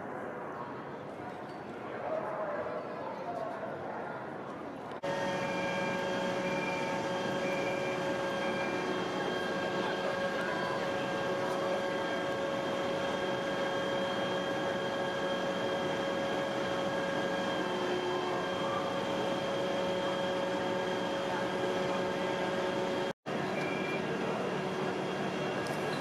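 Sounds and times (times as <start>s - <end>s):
engine and hydraulic pump hum: 5.0s - 26.0s
high steady whining tones: 5.0s - 26.0s.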